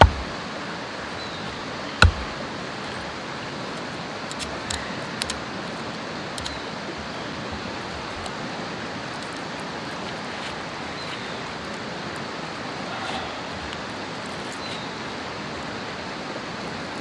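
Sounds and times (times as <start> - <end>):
water rushing along shore: 0.0 - 17.0.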